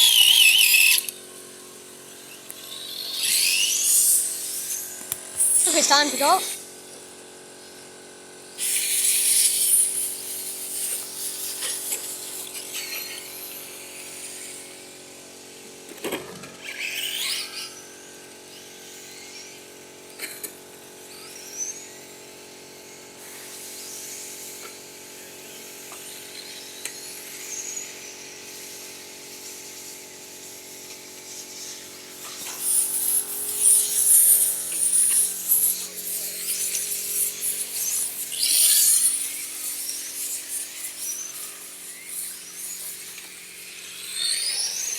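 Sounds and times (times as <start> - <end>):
remote-control car motors whining: 0.0 - 22.2, 22.8 - 44.9.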